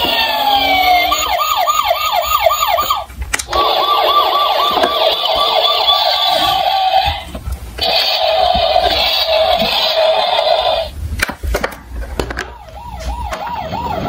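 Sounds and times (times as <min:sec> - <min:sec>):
electronic siren wailing and yelping: 0:00.0 - 0:10.9, 0:12.5 - 0:14.0.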